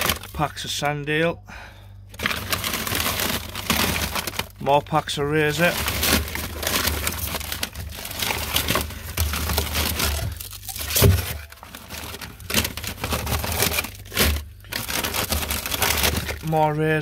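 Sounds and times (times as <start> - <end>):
plastic packs crinkling and knocking: 0.0 - 0.9, 2.1 - 17.0.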